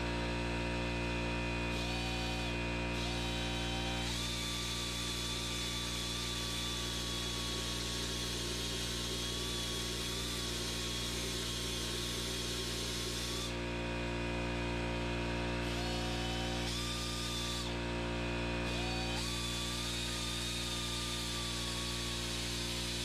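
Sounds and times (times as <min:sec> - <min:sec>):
pneumatic grinder whining: 0:00.0 - 0:23.0
air compressor humming: 0:00.7 - 0:23.0.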